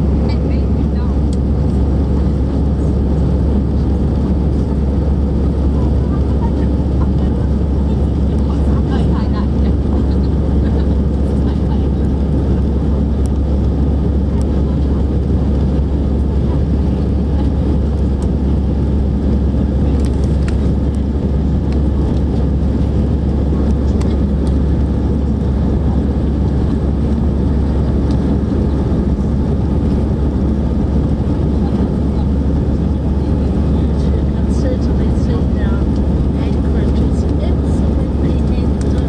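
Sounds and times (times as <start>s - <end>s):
jet airliner cabin noise: 0.0s - 39.0s.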